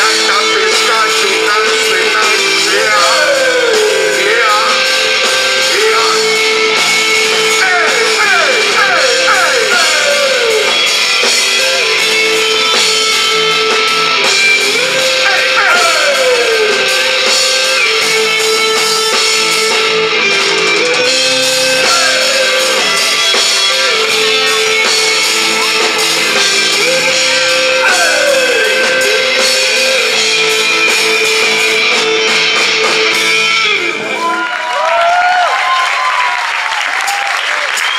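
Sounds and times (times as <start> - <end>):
live rock band playing: 0.0 - 34.9
crowd cheering and clapping: 2.4 - 37.9.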